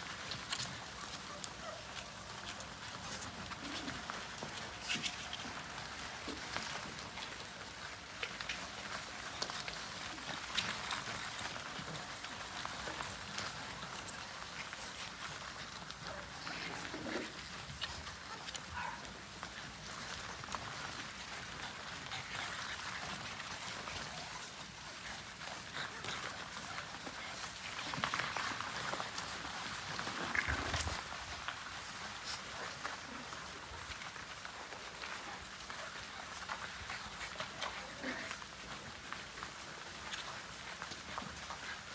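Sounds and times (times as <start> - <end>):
light clicks and scuffles: 0.0 - 41.9
puppies making small dog noises: 0.0 - 41.9.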